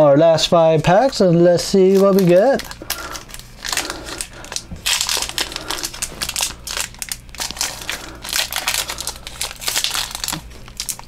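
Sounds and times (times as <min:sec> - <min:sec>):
foil wrappers crinkling: 0:00.6 - 0:11.0.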